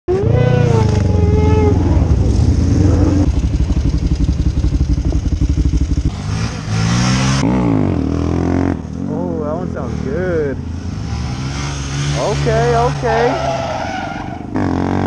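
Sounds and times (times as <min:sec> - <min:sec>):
motorcycle engines idling and revving: 0:00.1 - 0:15.0.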